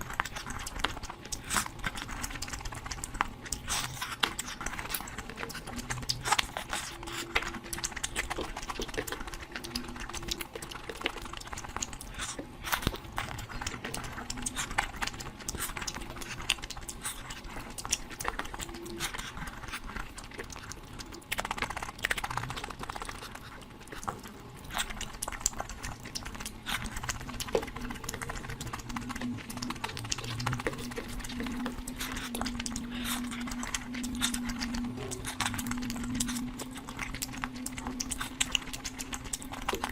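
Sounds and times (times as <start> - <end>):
chewing and lip-smacking: 0.0 - 39.9.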